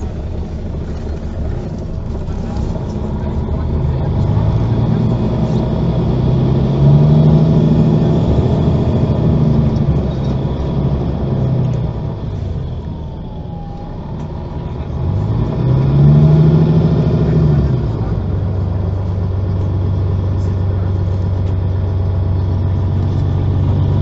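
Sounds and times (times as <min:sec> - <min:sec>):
bus diesel engine accelerating: 0:00.0 - 0:24.0.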